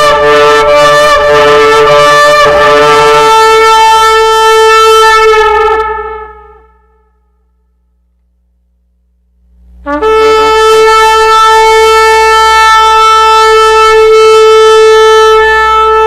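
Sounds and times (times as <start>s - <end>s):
shofar long blast: 0.0s - 7.8s, 9.8s - 16.0s.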